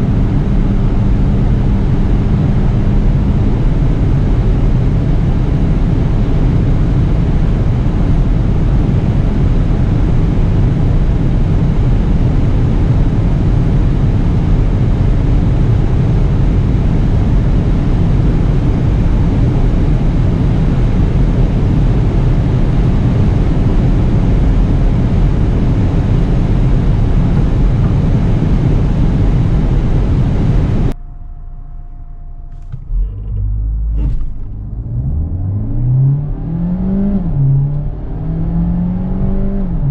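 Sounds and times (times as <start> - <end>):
car engine rising: 0.0 - 39.9
car interior wind and tyre drone: 0.0 - 39.9.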